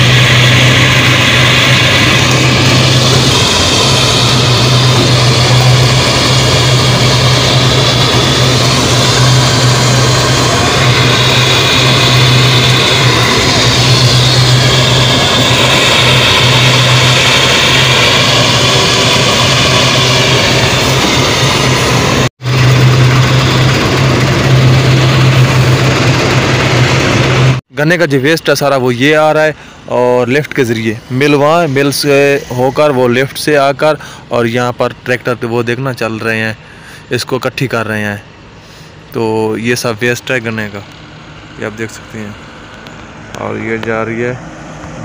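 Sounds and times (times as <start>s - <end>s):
machinery droning: 0.0s - 45.0s.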